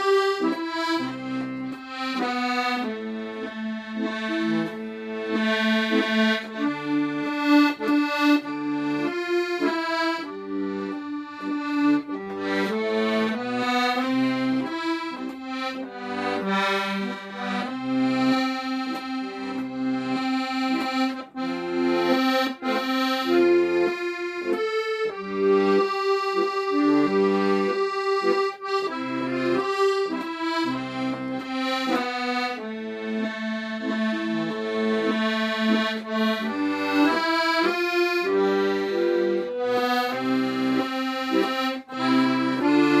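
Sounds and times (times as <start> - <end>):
accordion playing folk melody: 0.0 - 43.0.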